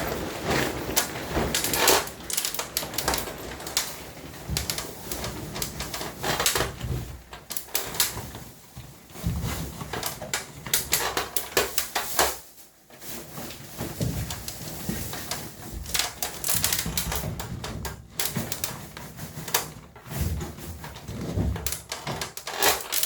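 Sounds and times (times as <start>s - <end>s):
parts and tools clicking and rattling: 0.0s - 23.0s.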